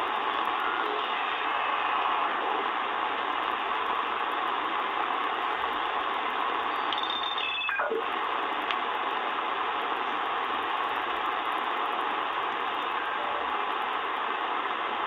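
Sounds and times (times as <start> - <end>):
shortwave radio band noise: 0.0 - 15.0.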